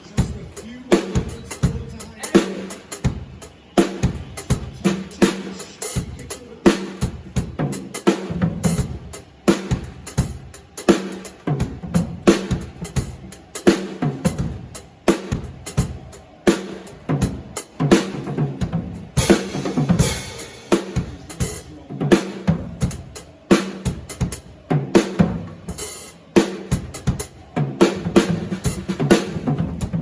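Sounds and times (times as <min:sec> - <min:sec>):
drum kit groove: 0:00.0 - 0:30.0.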